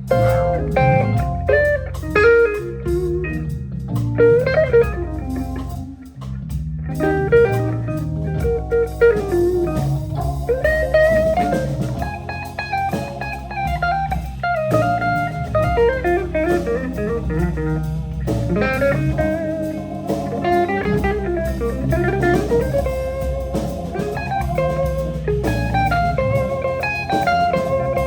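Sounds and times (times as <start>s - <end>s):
electric guitar solo: 0.0s - 6.2s, 6.8s - 28.0s
slow blues band playing: 0.0s - 28.0s.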